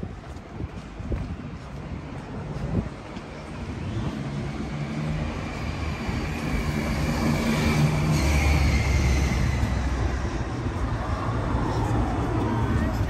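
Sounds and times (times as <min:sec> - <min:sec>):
general traffic noise: 0:00.0 - 0:13.0.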